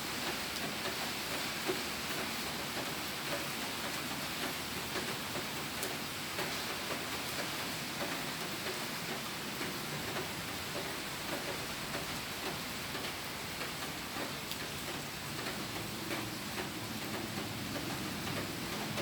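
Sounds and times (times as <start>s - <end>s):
steady rain hiss: 0.0s - 19.0s
raindrop taps: 2.7s - 19.0s.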